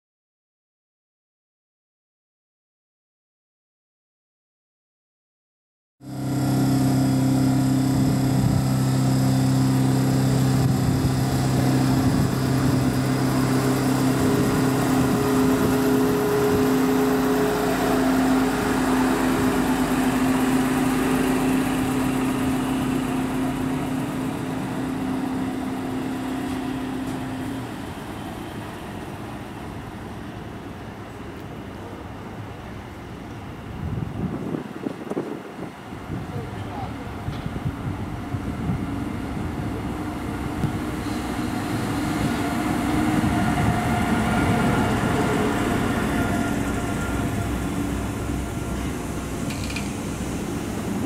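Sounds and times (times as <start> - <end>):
diesel train engine droning: 6.0 - 51.0.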